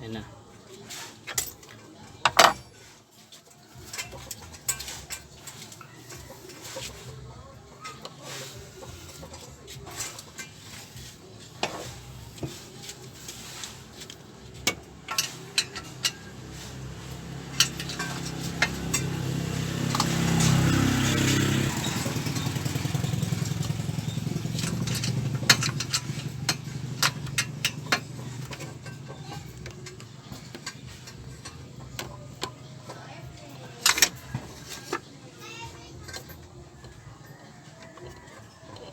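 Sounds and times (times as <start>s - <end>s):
metal tools clinking on engine: 1.1s - 38.9s
passing motor vehicle hum: 4.2s - 38.9s.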